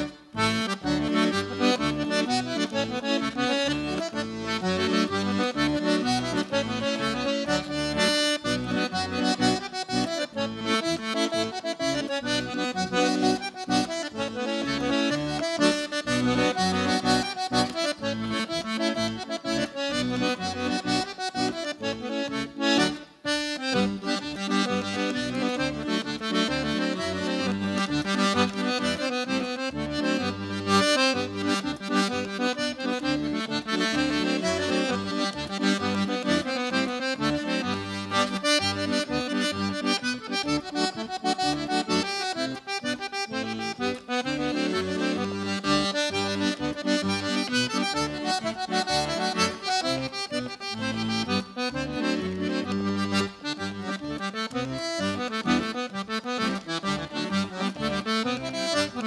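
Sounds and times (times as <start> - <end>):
accordion tune: 0.0 - 59.0.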